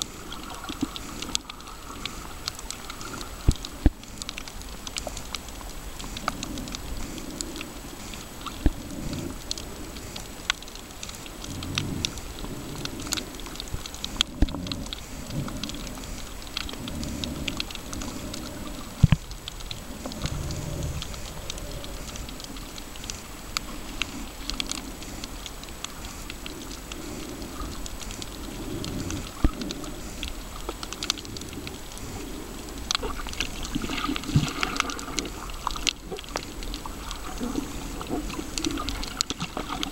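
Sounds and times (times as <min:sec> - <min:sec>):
crackle of sharp clicks underwater: 0:00.0 - 0:39.9
surges of moving water: 0:00.0 - 0:39.9.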